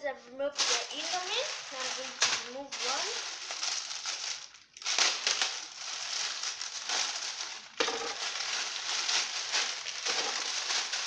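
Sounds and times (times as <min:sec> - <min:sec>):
noodle packet crinkling: 0:00.6 - 0:11.0.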